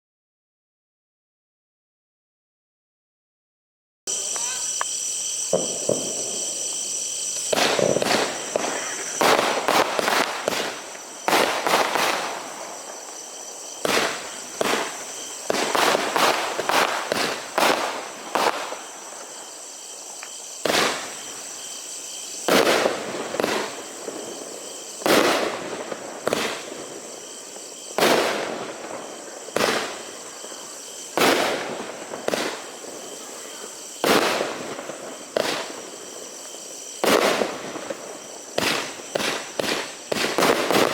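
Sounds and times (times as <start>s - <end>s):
fireworks shots bursting and crackling: 4.1s - 40.9s.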